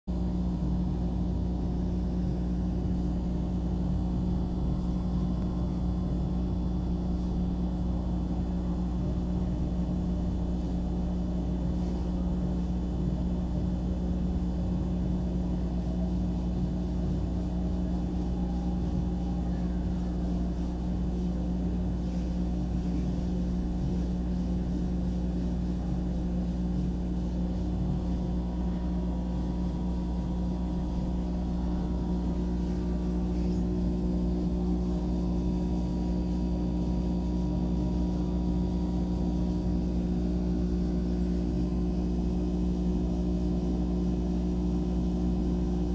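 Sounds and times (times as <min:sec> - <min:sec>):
laser cutter humming: 0:00.1 - 0:45.9.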